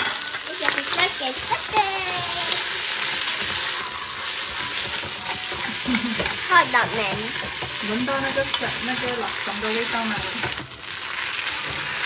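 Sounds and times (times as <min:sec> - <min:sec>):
noodles sizzling in hot oil: 0:00.0 - 0:12.0
spatula scraping a pot: 0:00.9 - 0:12.0.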